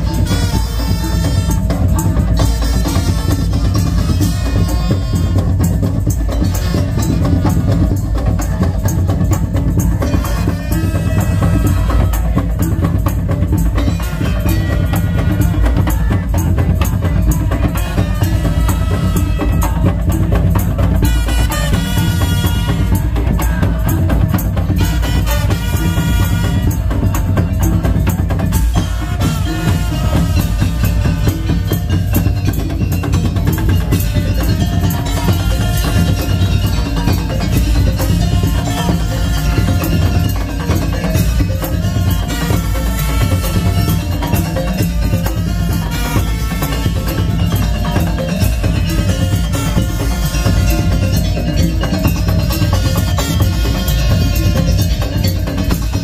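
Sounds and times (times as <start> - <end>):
big bass drums: 0.0 - 56.0
percussion ensemble playing: 0.0 - 56.0
pitched melody line: 0.0 - 56.0
wooden slit drums: 0.0 - 56.0.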